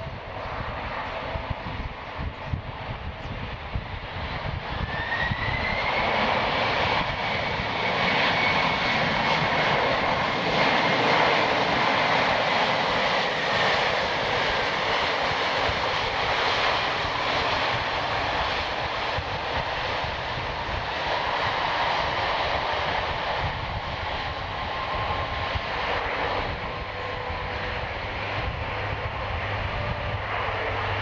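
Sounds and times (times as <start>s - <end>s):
engine whine: 0.0s - 31.0s
jet engines running loud: 0.0s - 31.0s.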